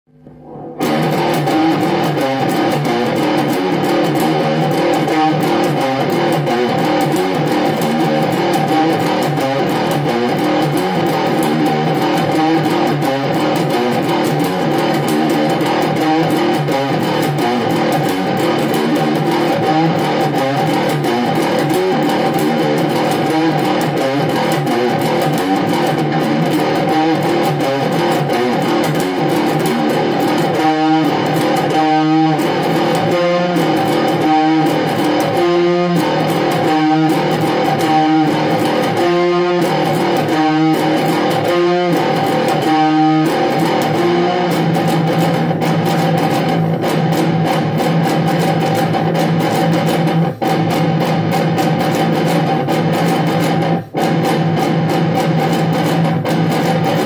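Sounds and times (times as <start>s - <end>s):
electric guitar riff: 0.1s - 57.0s.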